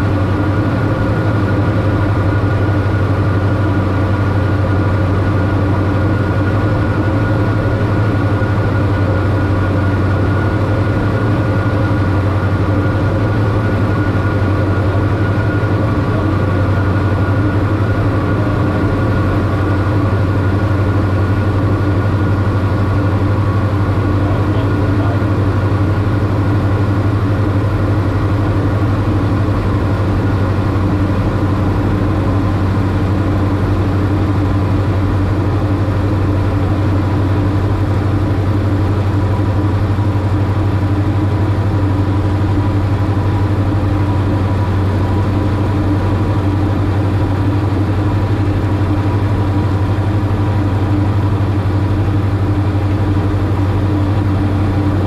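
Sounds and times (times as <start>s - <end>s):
aircraft engines droning: 0.0s - 55.0s.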